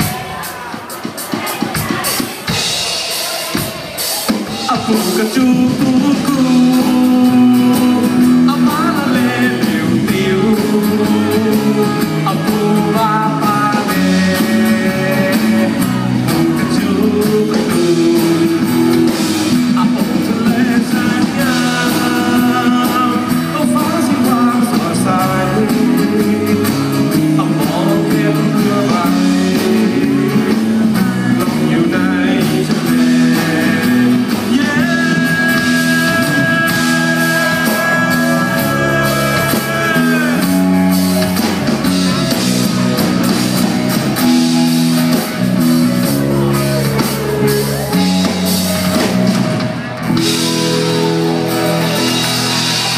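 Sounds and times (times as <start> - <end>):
person singing: 0.0 - 43.1
drums: 0.0 - 52.9
electric guitars: 0.0 - 52.9
bass: 1.5 - 52.9.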